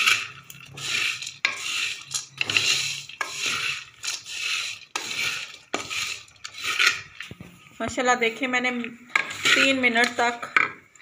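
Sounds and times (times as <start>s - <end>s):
spatula scraping nuts in pan: 0.0s - 10.7s.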